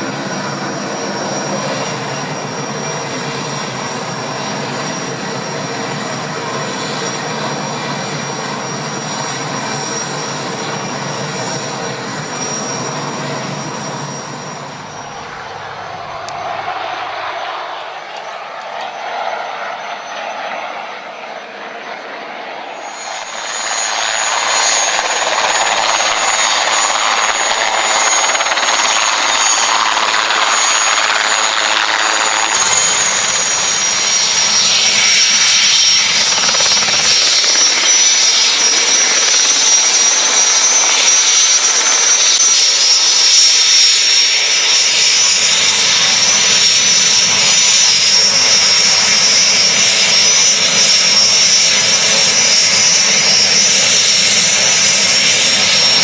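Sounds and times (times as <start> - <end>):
helicopter engines running: 0.0 - 56.0
high turbine whine: 0.0 - 56.0.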